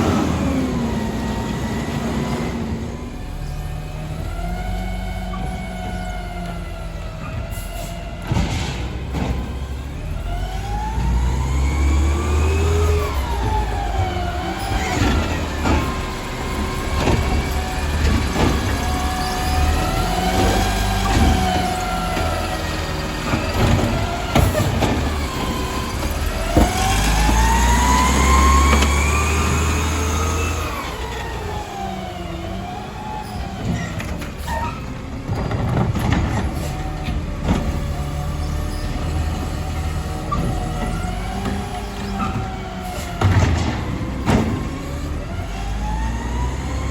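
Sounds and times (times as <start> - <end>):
garbage truck engine revving: 0.0 - 46.9.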